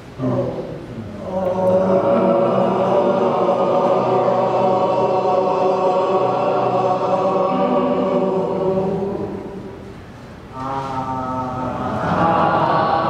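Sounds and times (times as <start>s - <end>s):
group of voices droning vowels: 0.0s - 13.0s.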